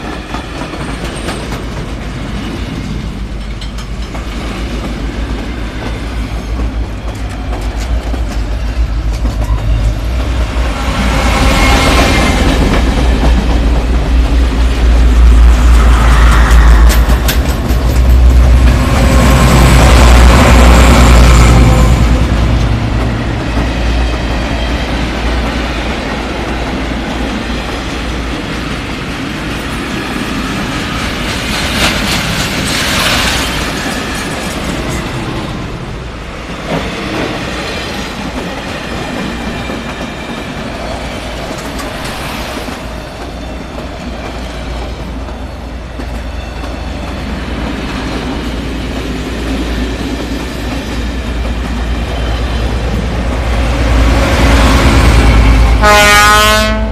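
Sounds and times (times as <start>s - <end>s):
diesel locomotive passing: 0.0s - 56.9s
train wheels rumbling on rails: 0.0s - 56.9s.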